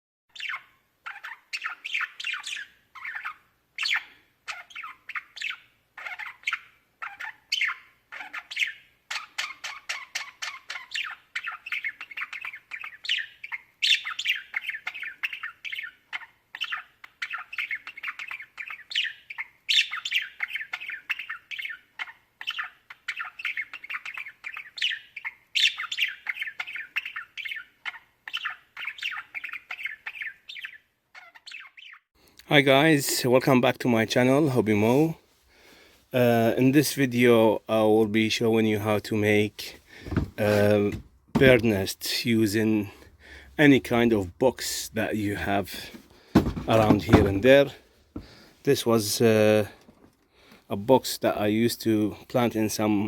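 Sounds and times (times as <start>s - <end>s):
budgerigars chattering and squawking: 0.3s - 32.0s, 37.2s - 49.7s.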